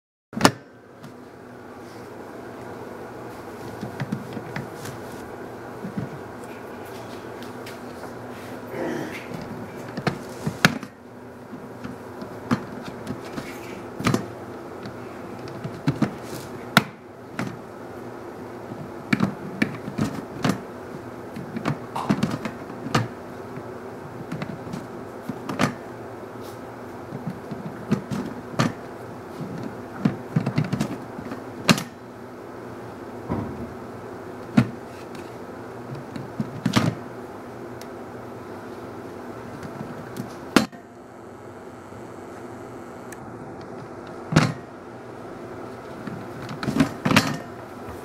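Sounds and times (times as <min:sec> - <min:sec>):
steady low hum: 0:00.4 - 0:48.0.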